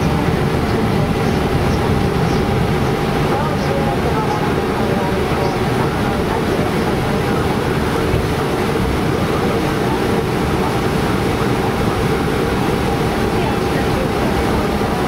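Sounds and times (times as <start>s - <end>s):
airplane cockpit rumble and hum: 0.0s - 15.0s.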